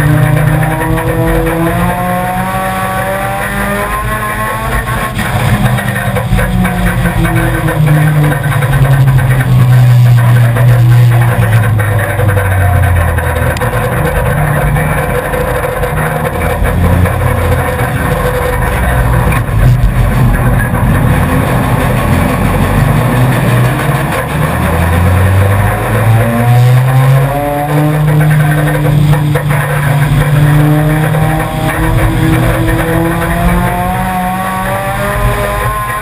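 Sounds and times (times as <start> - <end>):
race car engine running hard: 0.0 - 36.0.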